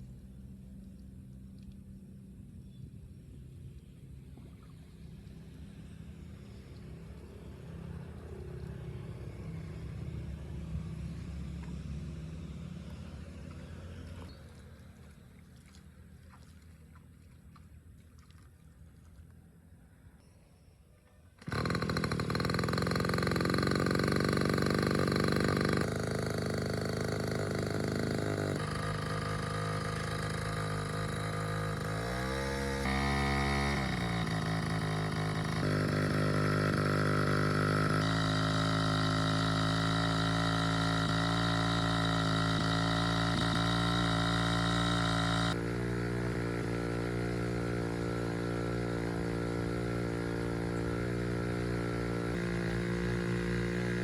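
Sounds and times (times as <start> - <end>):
small two-stroke engine running: 0.0 - 16.5, 21.3 - 54.0.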